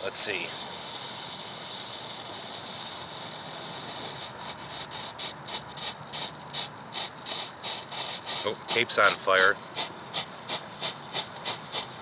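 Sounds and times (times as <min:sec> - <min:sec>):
firework hissing and sputtering: 0:00.0 - 0:12.0.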